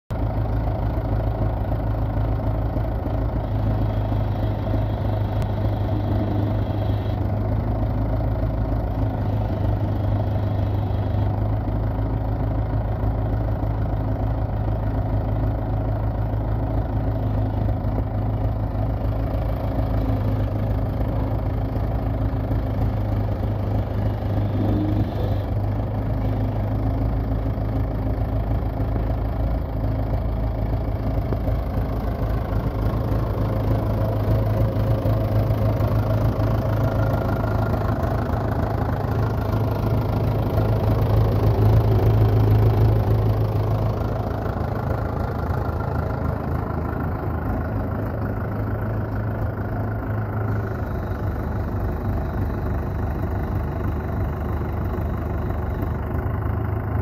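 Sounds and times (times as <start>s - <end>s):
diesel engine idling: 0.1s - 57.0s.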